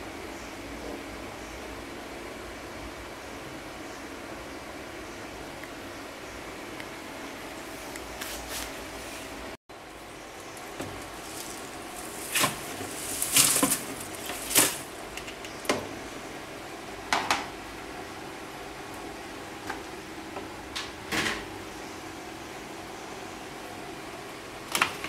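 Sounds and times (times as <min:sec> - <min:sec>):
washing machine hum: 0:00.0 - 0:25.0.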